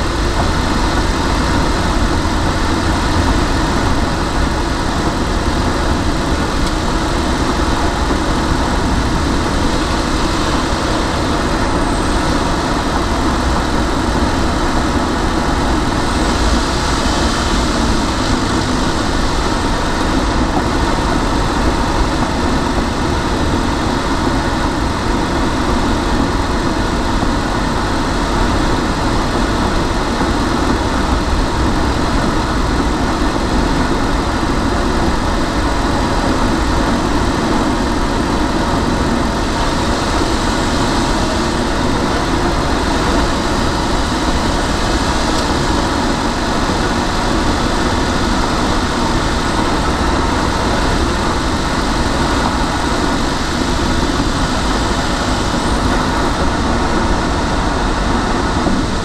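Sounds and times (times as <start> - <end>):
car driving through tunnel: 0.0 - 59.0.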